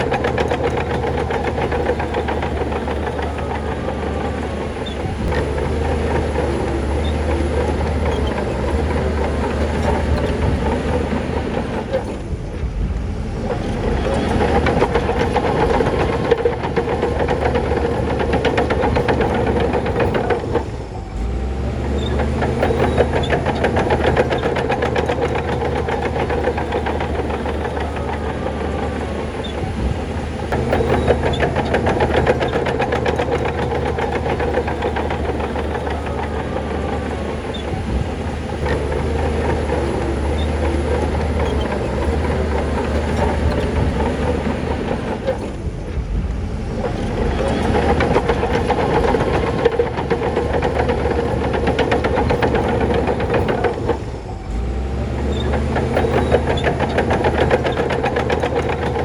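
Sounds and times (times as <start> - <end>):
dense metallic rattle: 0.0 - 59.0
diesel machinery engine running: 0.0 - 59.0.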